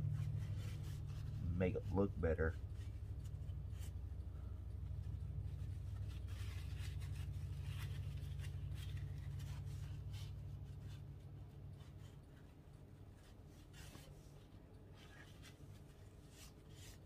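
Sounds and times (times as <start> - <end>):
paper towel rubbing metal: 0.0 - 17.0
steady low hum: 0.0 - 17.0.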